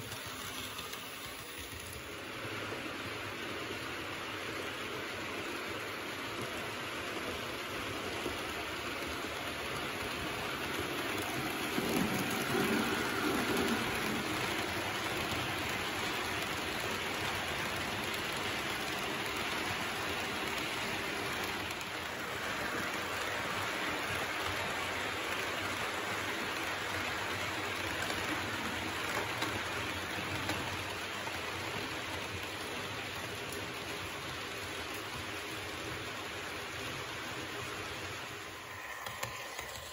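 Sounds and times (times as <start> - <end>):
model train wheels rattling: 0.0 - 39.9.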